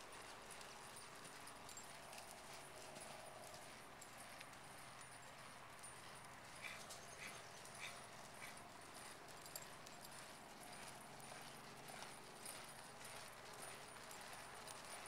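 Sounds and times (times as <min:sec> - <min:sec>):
horse hoofbeats trotting on dirt: 0:00.0 - 0:15.0.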